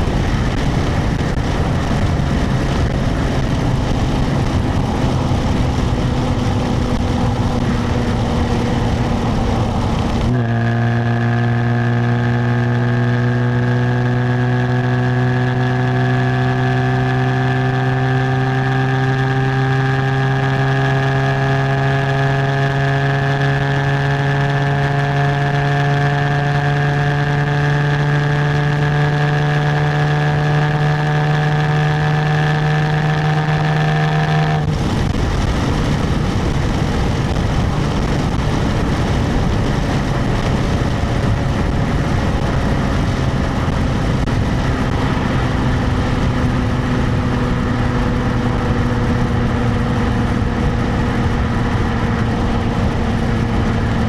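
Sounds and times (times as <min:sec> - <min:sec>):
car exhaust engine note: 0:00.0 - 0:54.0
road and wind rush: 0:00.0 - 0:54.0.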